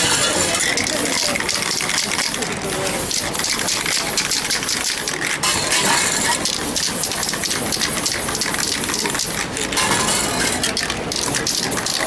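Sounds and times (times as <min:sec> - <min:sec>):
spray paint can hissing: 0:00.8 - 0:12.0.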